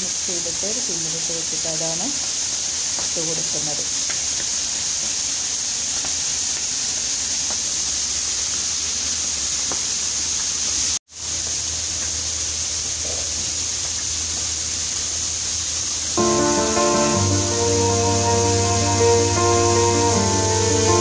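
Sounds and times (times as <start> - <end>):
oil sizzling in deep fryer: 0.0 - 21.0.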